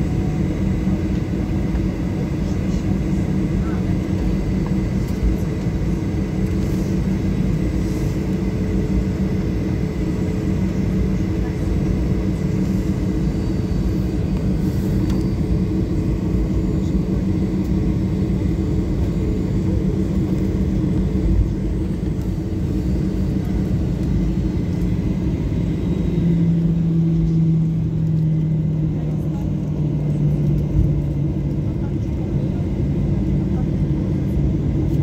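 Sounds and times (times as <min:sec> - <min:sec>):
jet engine rumble and hum: 0:00.0 - 0:35.0.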